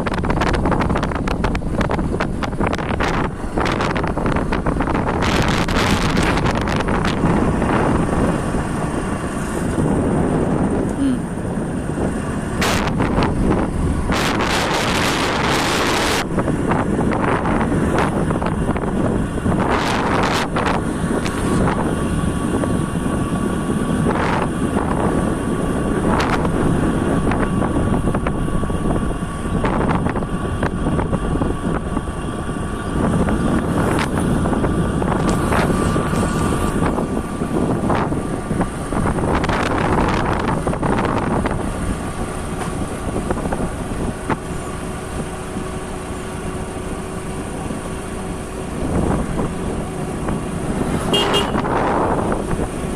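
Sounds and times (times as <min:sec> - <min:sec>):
motorcycle engine running: 0:00.0 - 0:52.9
wind rush on microphone: 0:00.0 - 0:52.9.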